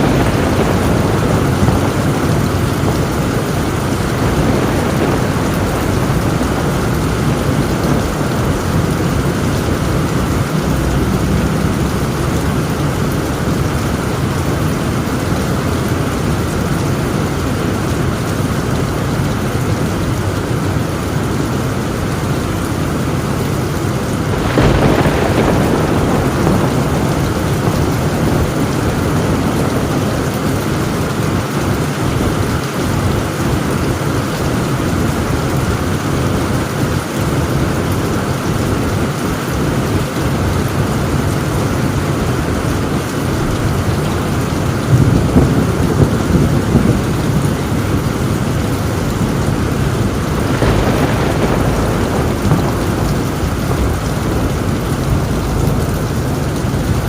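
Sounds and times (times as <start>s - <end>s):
thunderclap: 0.0s - 20.1s, 23.2s - 57.0s
heavy rain on a tin roof: 0.0s - 57.0s
low thunder rumble: 0.0s - 57.0s.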